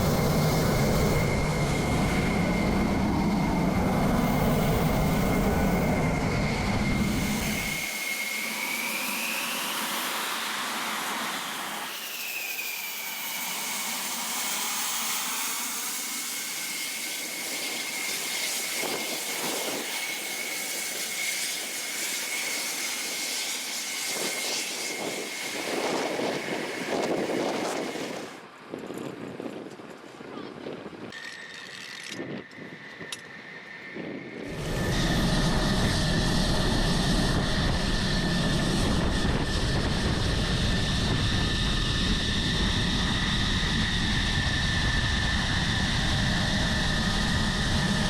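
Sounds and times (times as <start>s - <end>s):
jet turbine engine whine: 0.0s - 29.6s, 30.9s - 48.0s.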